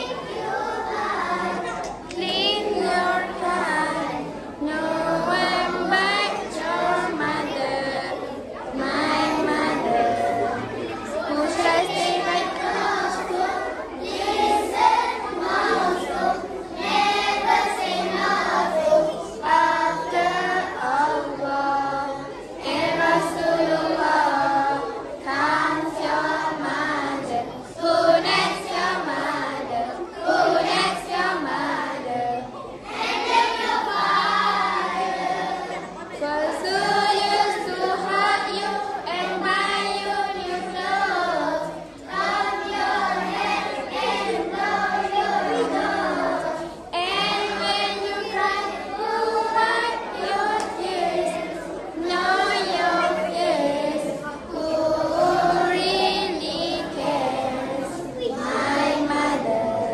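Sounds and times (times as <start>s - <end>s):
children's choir singing: 0.0s - 59.9s.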